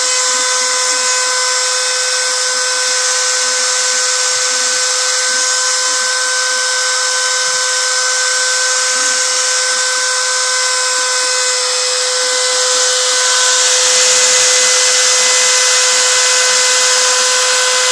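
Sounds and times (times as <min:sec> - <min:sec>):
router spindle whining: 0:00.0 - 0:17.9.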